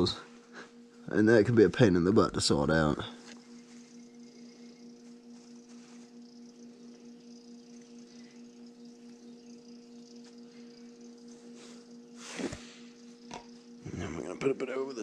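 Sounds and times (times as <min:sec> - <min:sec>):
freezer compressor humming: 0:00.0 - 0:15.0.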